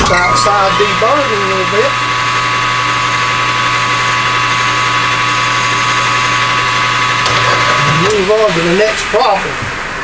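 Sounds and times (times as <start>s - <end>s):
lathe hum and whine: 0.0s - 10.0s.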